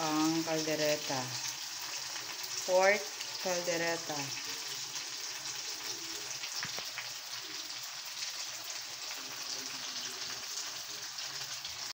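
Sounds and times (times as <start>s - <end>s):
food sizzling in a wok: 0.0s - 11.9s.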